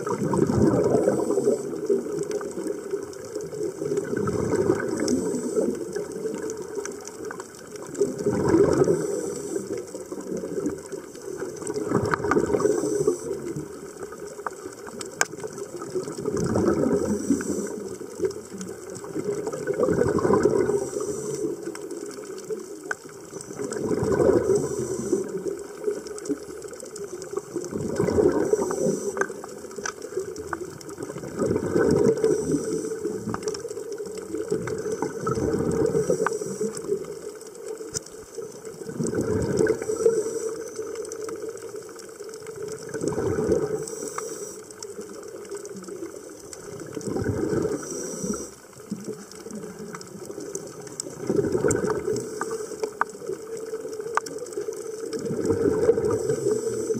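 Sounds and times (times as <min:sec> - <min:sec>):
scuba regulator breathing underwater: 0:00.0 - 0:02.7, 0:03.8 - 0:07.3, 0:08.0 - 0:14.2, 0:14.9 - 0:18.4, 0:19.0 - 0:22.4, 0:23.3 - 0:26.4, 0:27.0 - 0:38.0, 0:38.9 - 0:41.7, 0:42.8 - 0:45.9, 0:46.9 - 0:53.9, 0:55.0 - 0:56.9
exhaled bubbles crackling: 0:00.0 - 0:56.9.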